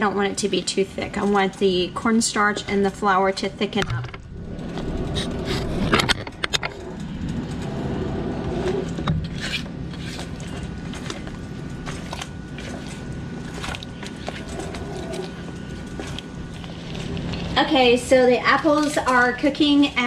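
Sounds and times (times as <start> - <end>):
low hum: 0.9 - 20.0.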